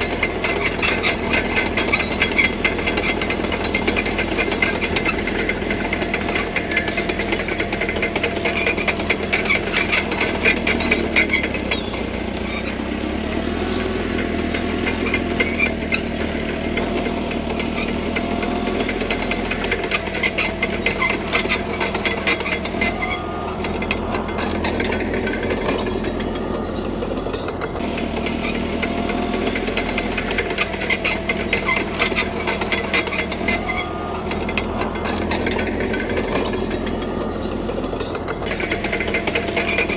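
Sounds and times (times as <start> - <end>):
bulldozer diesel engine under load: 0.0 - 39.9
metallic clatter of tracks: 0.0 - 39.9.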